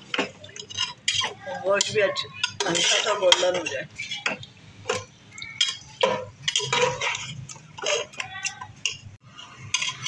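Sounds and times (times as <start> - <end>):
metal skimmer scraping a pot: 0.1 - 10.0.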